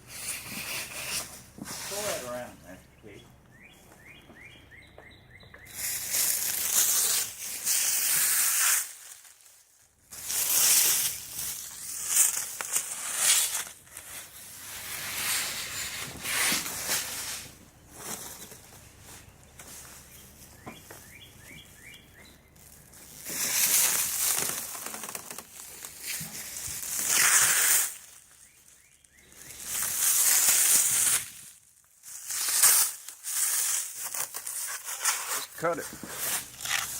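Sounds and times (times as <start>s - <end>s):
plastic wrap rustling and crinkling: 0.1s - 2.7s, 5.8s - 36.9s.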